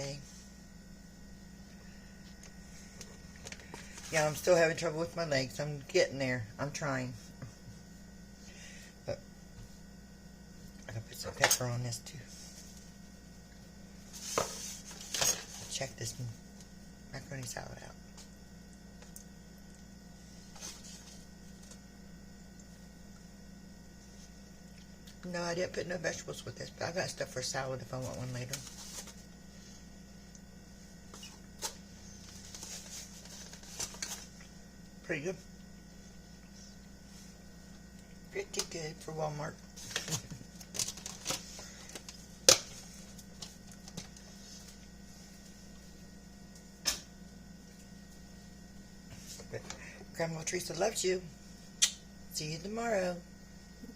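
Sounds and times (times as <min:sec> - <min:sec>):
electrical hum: 0:00.0 - 0:53.9.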